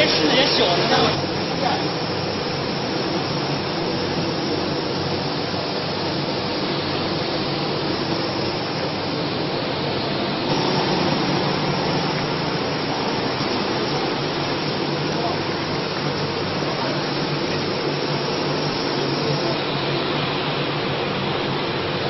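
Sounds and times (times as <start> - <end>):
factory machinery hiss: 0.0 - 22.0
low machinery hum: 0.0 - 22.0.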